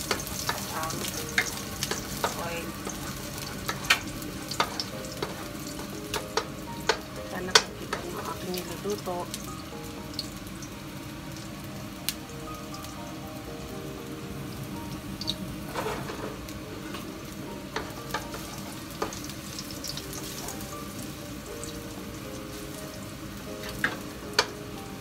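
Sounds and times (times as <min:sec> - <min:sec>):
garlic sizzling in oil: 0:00.0 - 0:25.0.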